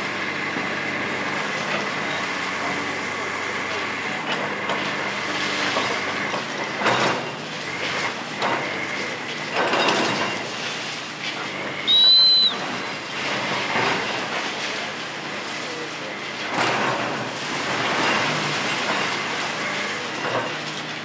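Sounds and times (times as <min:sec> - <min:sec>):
excavator running: 0:00.0 - 0:21.0.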